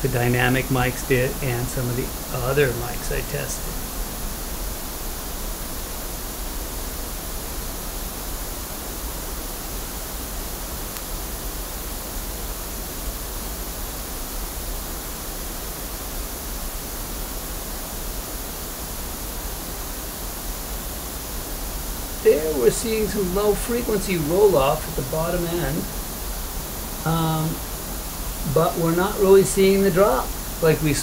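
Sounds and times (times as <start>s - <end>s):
pink noise hiss from loudspeaker: 0.0s - 31.0s.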